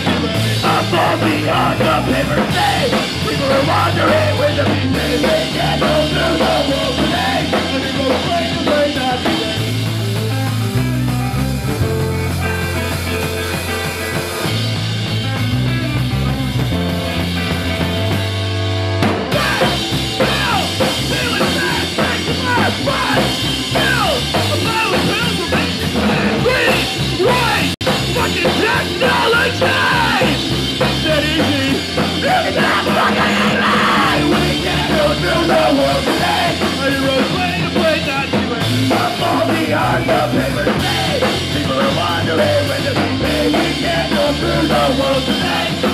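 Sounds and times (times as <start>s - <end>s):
live punk rock band playing: 0.0s - 45.9s.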